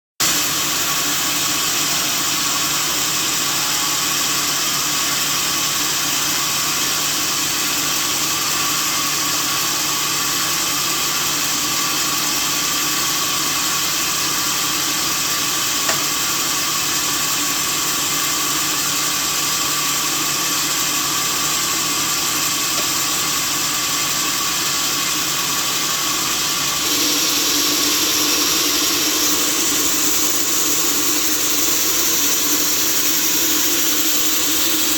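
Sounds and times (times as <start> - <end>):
sawmill machinery running: 0.2 - 34.9.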